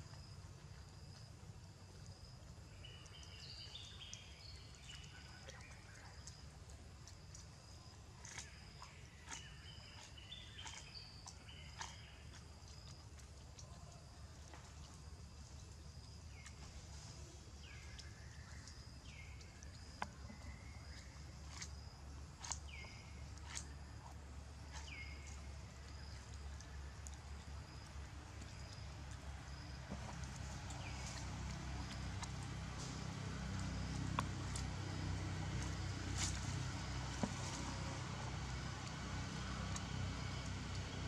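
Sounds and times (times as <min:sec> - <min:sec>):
low steady rumble: 0:00.0 - 0:41.0.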